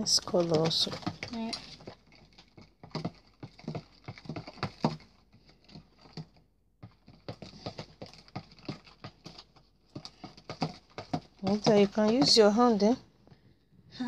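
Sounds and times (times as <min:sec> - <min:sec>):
spoon stirring slime: 0:00.0 - 0:13.0.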